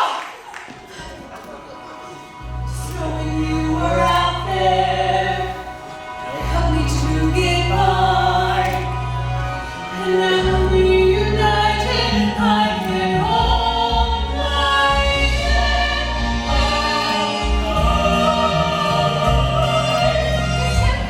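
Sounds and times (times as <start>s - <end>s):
chorus singing show tune: 2.3s - 21.0s.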